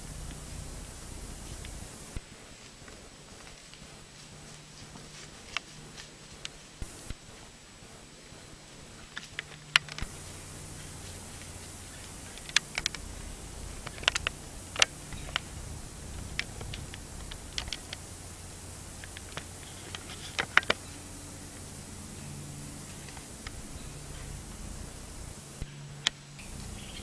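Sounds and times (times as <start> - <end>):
hooves stepping through dry leaves: 0.0 - 25.7.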